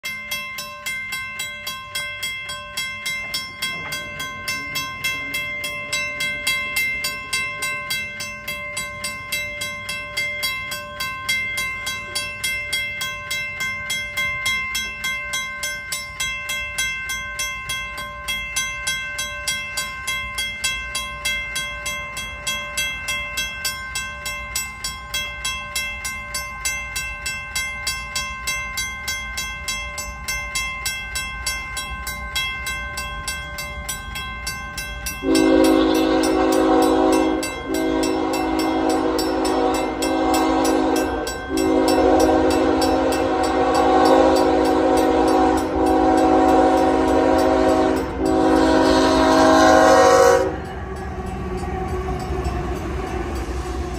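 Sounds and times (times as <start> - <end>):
railway crossing bell ringing: 0.0 - 53.9.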